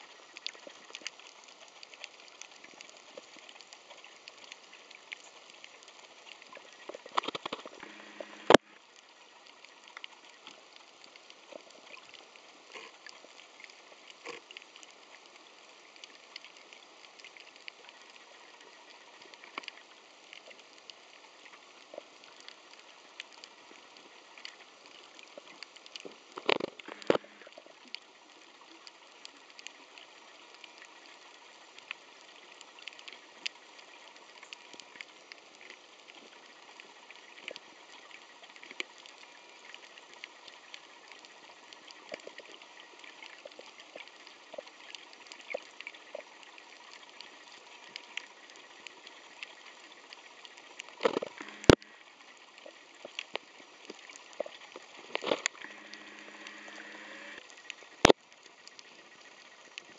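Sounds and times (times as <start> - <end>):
faint underwater hiss: 0.0 - 59.9
small clicks and crackles: 0.0 - 59.9.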